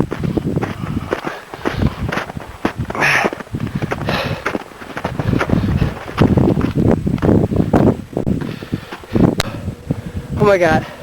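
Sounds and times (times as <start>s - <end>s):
footsteps crunching through snow: 0.0s - 10.0s
wind buffeting microphone: 0.0s - 11.0s.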